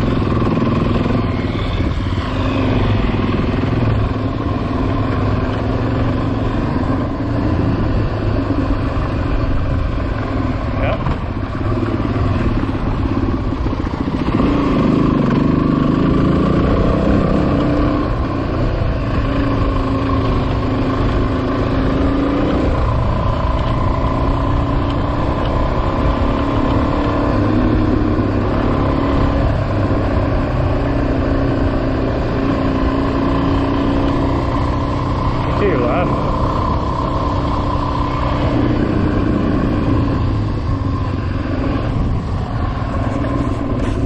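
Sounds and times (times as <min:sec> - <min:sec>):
motorcycle engine revving: 0:00.0 - 0:44.0
wind and road noise: 0:00.0 - 0:44.0.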